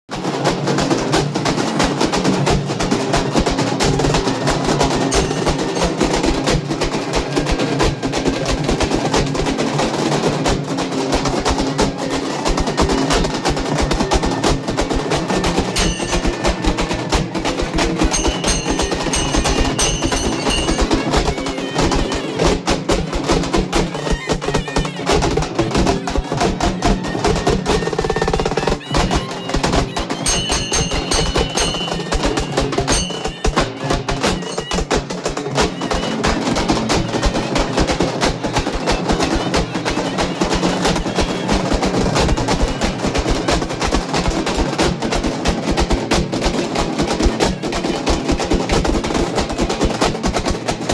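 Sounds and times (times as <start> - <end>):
frame drums played with sticks: 0.1 - 50.9.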